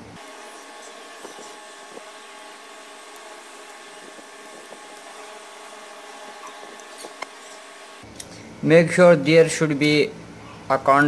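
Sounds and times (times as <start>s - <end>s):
background hiss and hum: 0.0s - 11.0s.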